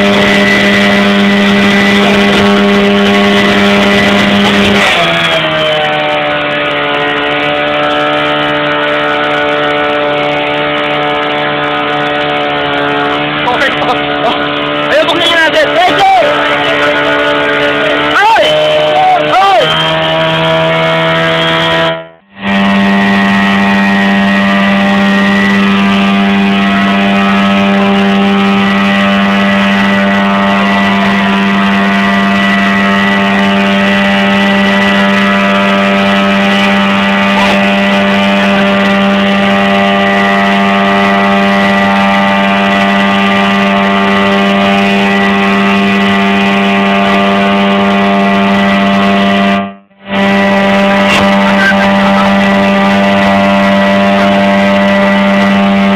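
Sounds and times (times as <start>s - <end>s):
small engine running: 0.0s - 55.9s.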